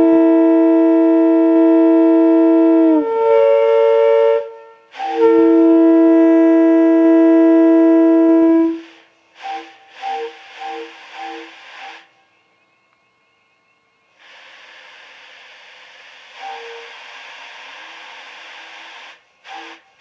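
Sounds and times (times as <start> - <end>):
train horn blasts: 0.0 - 14.5, 15.1 - 20.0.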